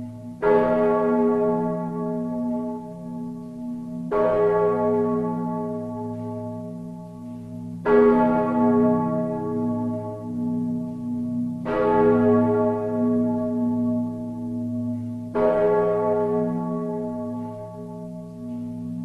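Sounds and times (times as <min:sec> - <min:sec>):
deep tolling bell: 0:00.0 - 0:19.0.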